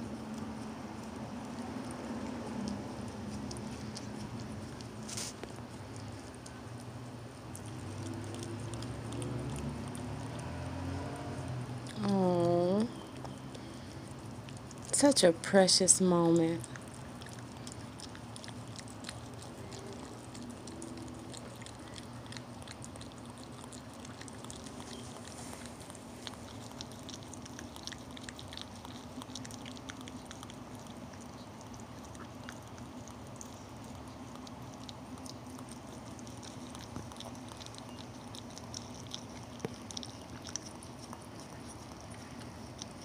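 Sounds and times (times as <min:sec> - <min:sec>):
dog licking wet smacks: 0:00.0 - 0:12.1, 0:13.0 - 0:43.0.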